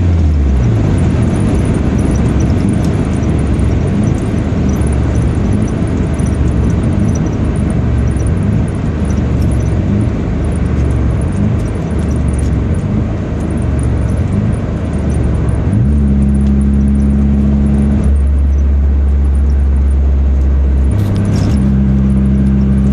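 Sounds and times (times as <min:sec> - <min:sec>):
rotary engine exhaust rumble: 0:00.0 - 0:22.9.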